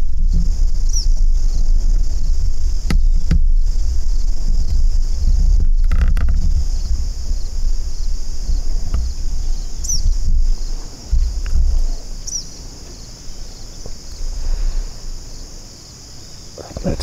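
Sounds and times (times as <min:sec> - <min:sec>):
insect chorus: 0:00.0 - 0:17.0
wind rumble on microphone: 0:00.0 - 0:17.0.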